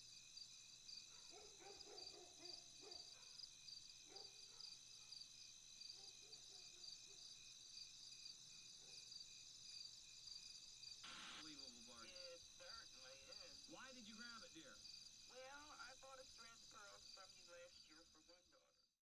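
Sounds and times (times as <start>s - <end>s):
crickets chirping: 0.0s - 18.9s.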